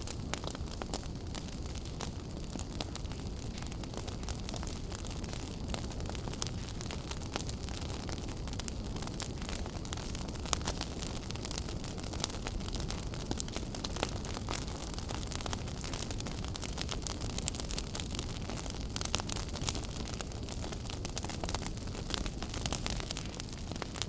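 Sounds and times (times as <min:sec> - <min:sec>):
fire popping and snapping: 0:00.0 - 0:24.0
wood fire crackling: 0:00.0 - 0:24.0.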